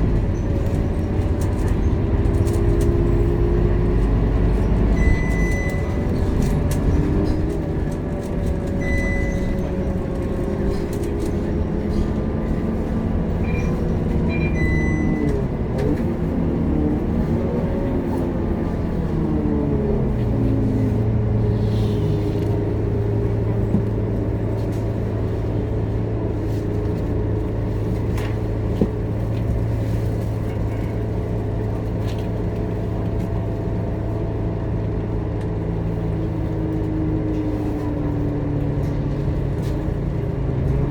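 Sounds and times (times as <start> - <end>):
bus diesel engine droning: 0.0 - 40.9.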